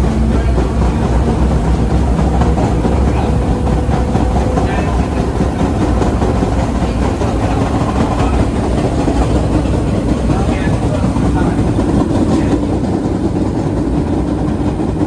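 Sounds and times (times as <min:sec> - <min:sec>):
subway car rumble: 0:00.0 - 0:15.0
wheels clattering on rails: 0:00.0 - 0:15.0.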